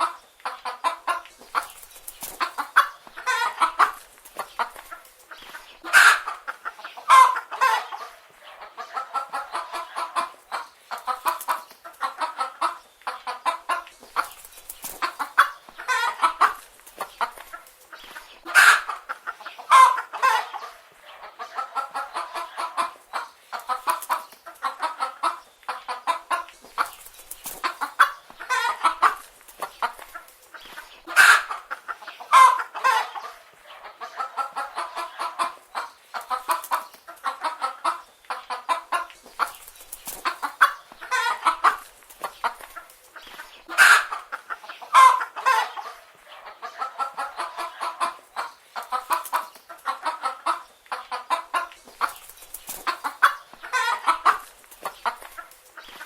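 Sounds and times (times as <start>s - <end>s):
hens clucking: 0.0s - 56.0s
hens squawking: 0.0s - 56.0s.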